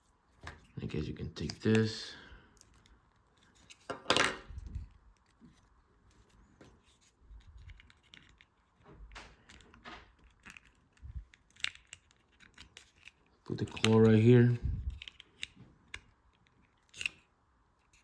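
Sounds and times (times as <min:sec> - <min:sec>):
plastic clicks and rattles: 0:02.6 - 0:18.0
plastic part clacking: 0:02.6 - 0:18.0.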